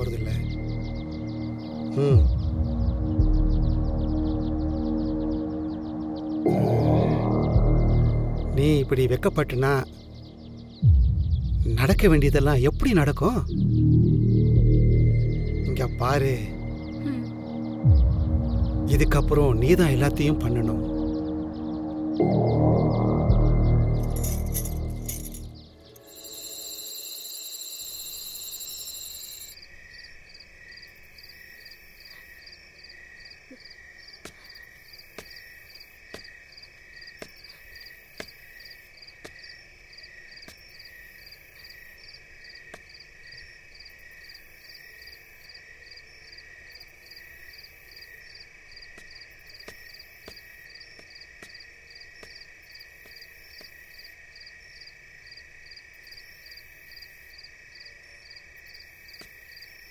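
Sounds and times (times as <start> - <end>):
frogs and insects calling: 0.0 - 11.1, 12.3 - 59.9.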